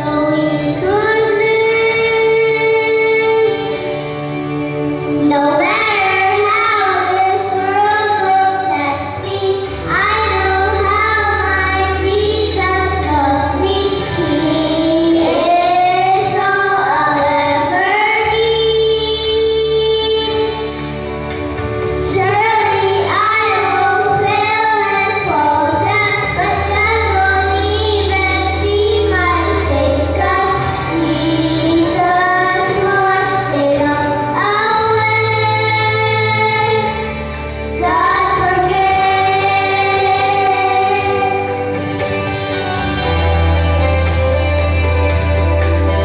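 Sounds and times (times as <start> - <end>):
children singing into microphones: 0.0 - 44.5
instrumental accompaniment: 0.0 - 46.0.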